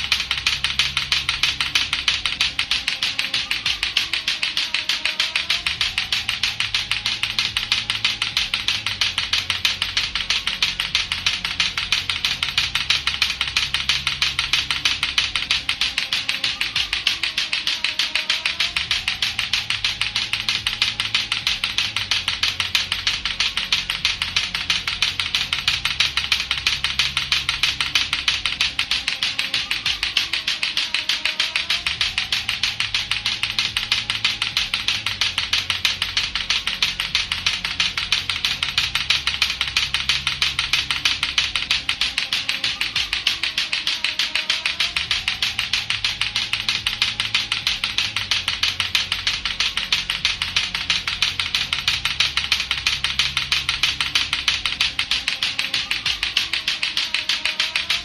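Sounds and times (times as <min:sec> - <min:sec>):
looping background music: 0:00.0 - 0:58.0
plastic clacker balls clacking: 0:00.0 - 0:58.0.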